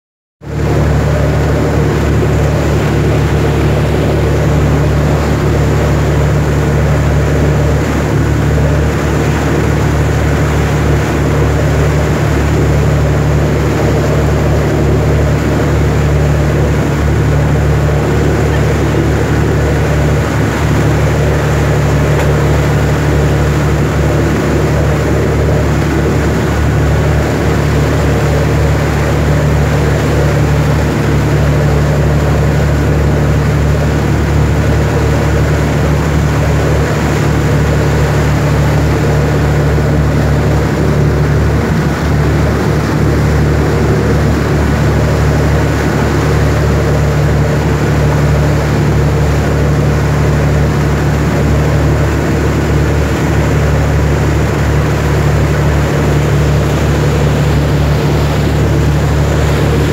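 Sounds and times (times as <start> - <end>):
boat engine droning: 0.4 - 59.9
rushing noise of boat moving: 0.4 - 59.9.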